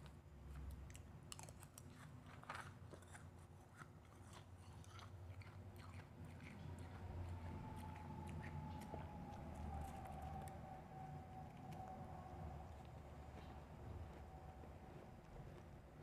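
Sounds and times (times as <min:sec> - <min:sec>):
crunching and chewing ice: 0:00.0 - 0:16.0.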